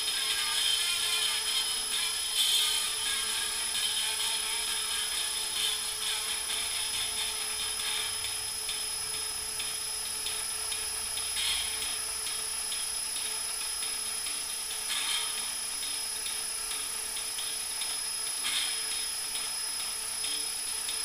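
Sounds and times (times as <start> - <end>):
cordless drill whine: 0.0 - 21.0.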